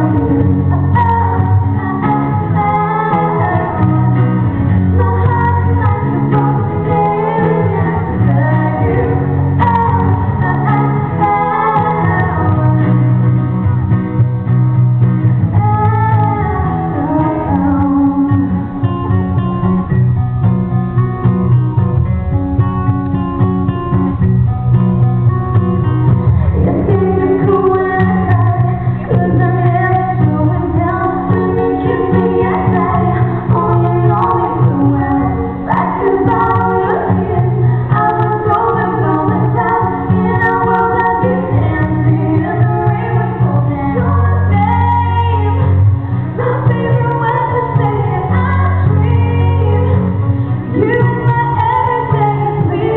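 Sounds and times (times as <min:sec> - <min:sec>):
woman singing lead vocals: 0:00.0 - 0:20.0, 0:25.2 - 0:52.9
bass line: 0:00.0 - 0:52.9
guitar: 0:00.0 - 0:52.9
vocal harmonies: 0:00.0 - 0:52.9.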